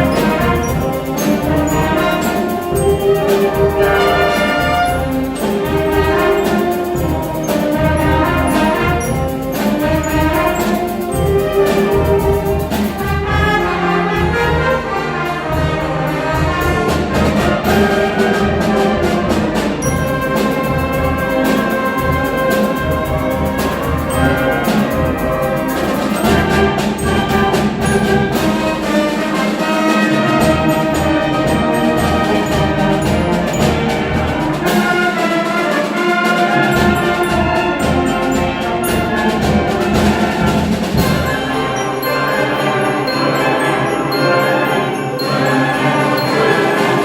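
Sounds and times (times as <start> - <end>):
brass ensemble playing: 0.0 - 47.0
steady percussion beat: 0.0 - 47.0.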